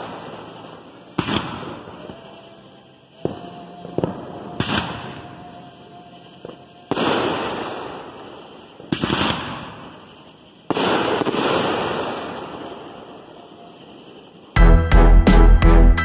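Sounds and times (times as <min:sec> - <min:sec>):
fireworks bangs: 0:00.0 - 0:14.6.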